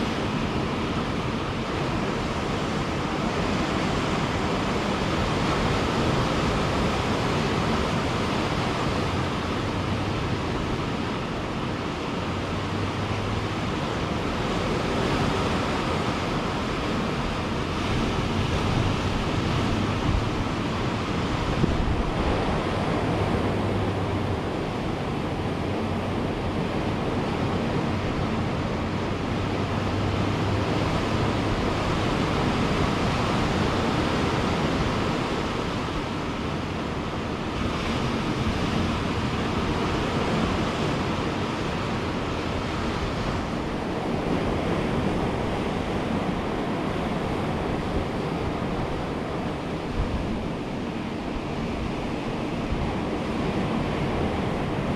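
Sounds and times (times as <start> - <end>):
ocean surf breaking: 0.0 - 54.9
wind noise on microphone: 0.0 - 54.9.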